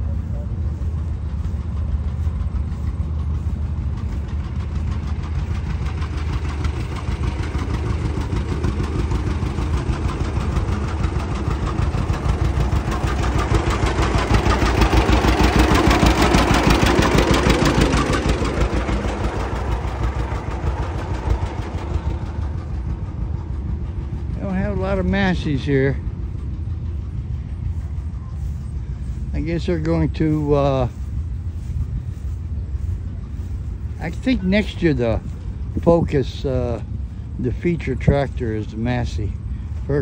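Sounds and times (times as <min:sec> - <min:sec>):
old engine running slowly: 0:00.0 - 0:40.0.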